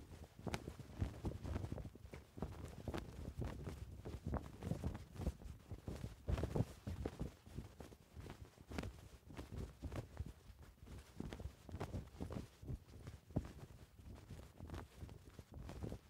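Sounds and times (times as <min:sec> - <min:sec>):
flag flapping: 0:00.0 - 0:16.0.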